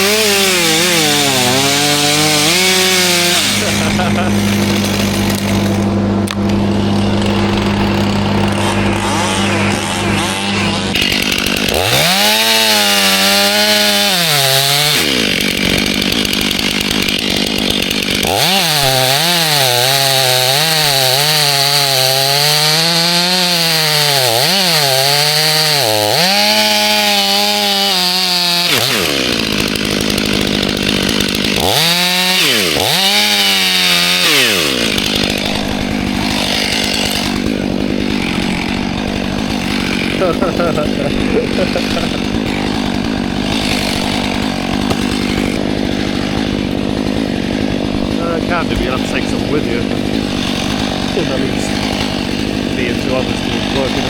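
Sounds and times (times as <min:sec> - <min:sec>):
chainsaw cutting wood: 0:00.0 - 0:54.0
chainsaw idling: 0:00.0 - 0:54.0.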